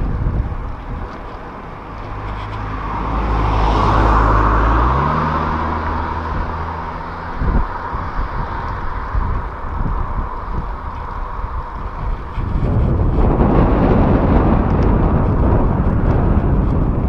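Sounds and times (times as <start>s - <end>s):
car passing close: 0.0s - 17.0s
wind on microphone: 0.0s - 17.0s.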